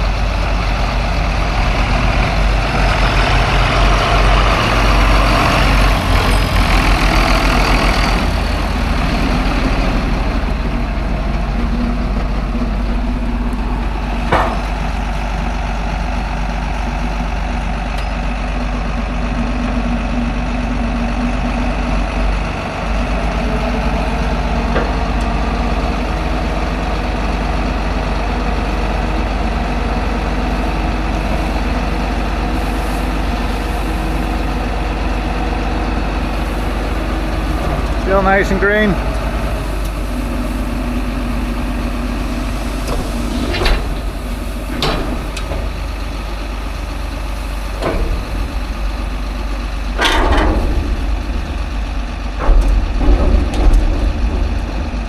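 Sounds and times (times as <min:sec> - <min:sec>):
heavy farm vehicle engine: 0:00.0 - 0:55.0.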